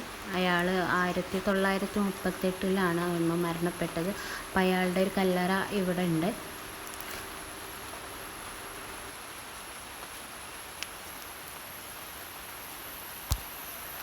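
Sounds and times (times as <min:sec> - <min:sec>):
rain falling in forest: 0:00.0 - 0:14.0.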